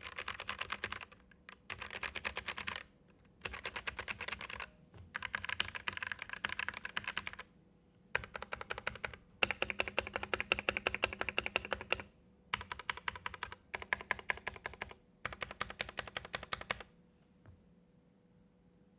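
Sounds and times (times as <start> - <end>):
mechanical keyboard typing: 0.0 - 7.5, 8.2 - 16.9.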